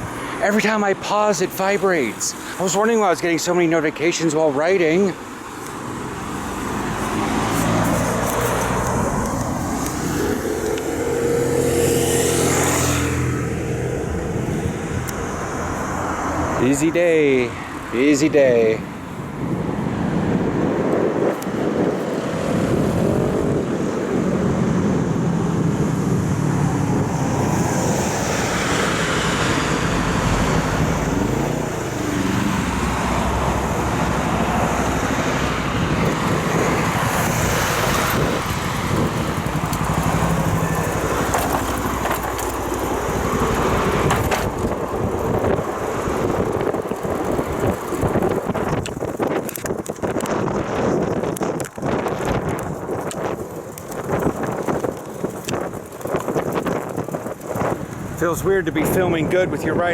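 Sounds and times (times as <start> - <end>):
road traffic: 0.0 - 59.9
motor vehicle hum: 5.1 - 59.9
rushing air: 5.2 - 59.9.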